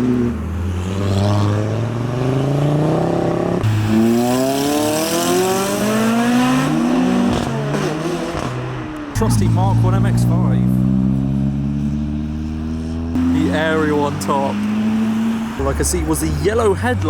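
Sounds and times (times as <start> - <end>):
car accelerating hard: 0.0 - 17.0.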